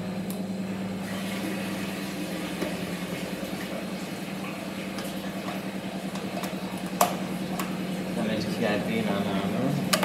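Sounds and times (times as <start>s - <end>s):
washing machine pulsing hum: 0.0s - 10.0s.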